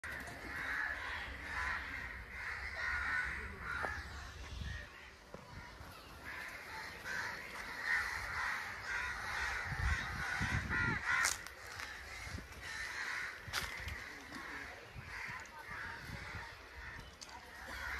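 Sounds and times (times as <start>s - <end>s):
crows cawing: 0.0s - 4.4s, 6.0s - 17.9s.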